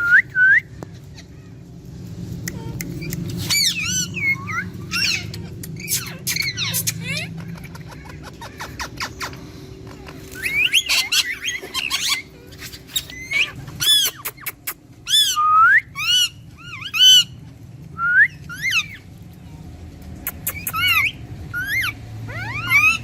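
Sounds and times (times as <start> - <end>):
parakeets screeching: 0.8 - 17.4, 18.3 - 19.2, 20.2 - 23.0.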